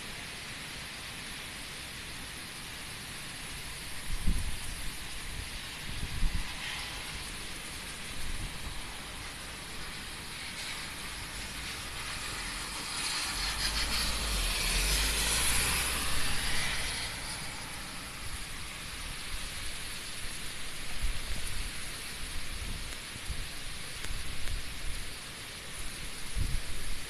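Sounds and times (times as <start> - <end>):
heavy rain: 0.0 - 27.0
strong wind: 3.4 - 27.0.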